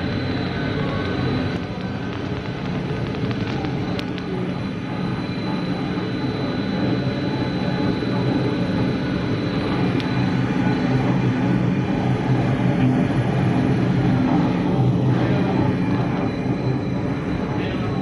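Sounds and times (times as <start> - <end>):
faint high whine: 0.0 - 18.0
machinery drone: 0.0 - 18.0.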